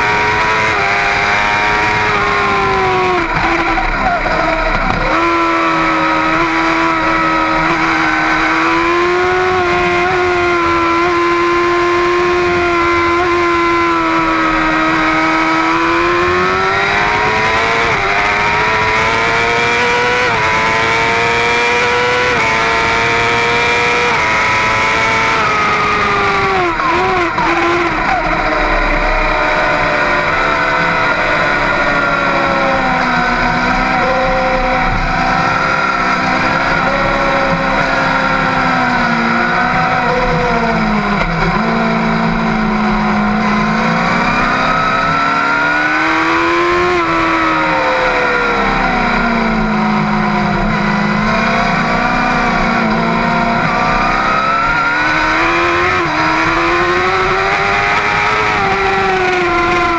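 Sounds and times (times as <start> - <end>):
superbike engine revving and shifting: 0.0 - 59.9.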